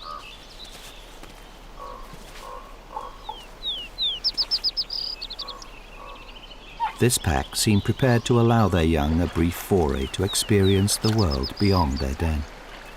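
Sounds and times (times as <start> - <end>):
songbird singing and trilling: 0.0 - 12.9.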